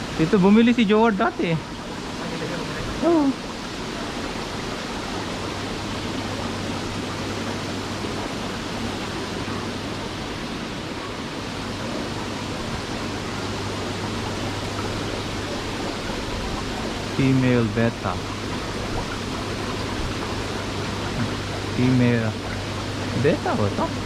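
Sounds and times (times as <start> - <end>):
low pump hum: 0.0 - 24.0
running water and aeration hiss: 0.0 - 24.0.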